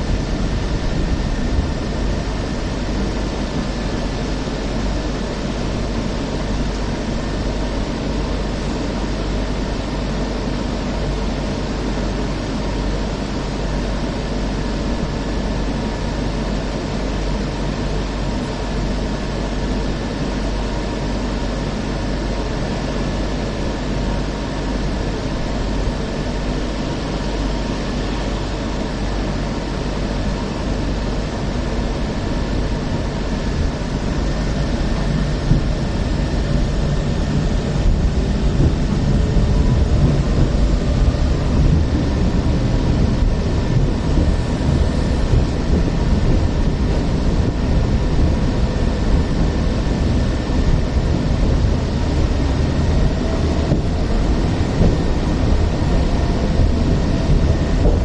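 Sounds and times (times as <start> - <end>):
tram cabin hum and hiss: 0.0 - 58.0.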